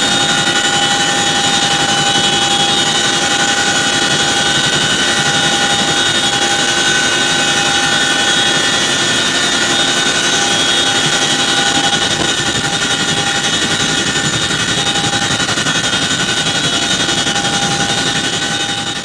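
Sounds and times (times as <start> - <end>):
helicopter rotor rush: 0.0 - 19.0
high turbine whine: 0.0 - 19.0.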